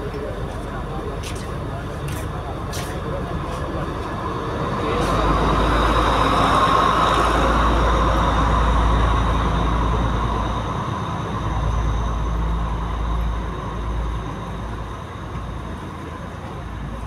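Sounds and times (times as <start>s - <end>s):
diesel train rumbling: 0.0s - 17.0s
rail noise: 0.0s - 17.0s.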